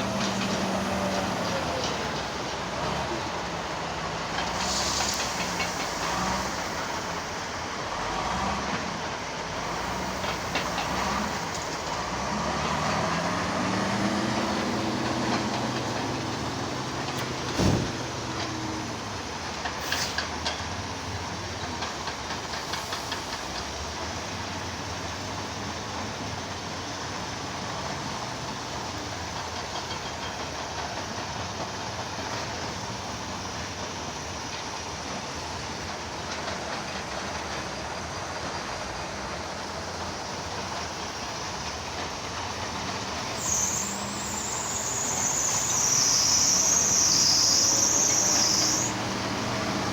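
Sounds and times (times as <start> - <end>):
diesel machinery engine running: 0.0 - 49.9.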